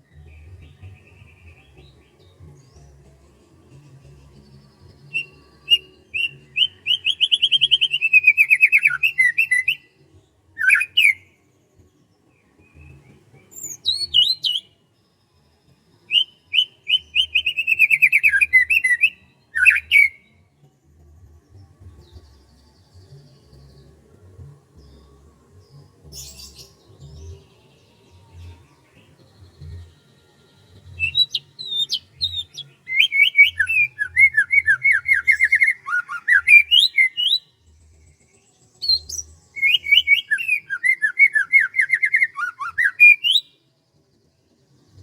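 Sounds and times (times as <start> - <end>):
songbird singing: 0.0 - 45.0.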